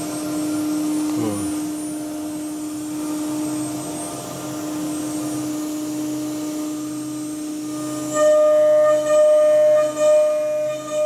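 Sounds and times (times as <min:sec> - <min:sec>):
workshop machinery drone: 0:00.0 - 0:11.0.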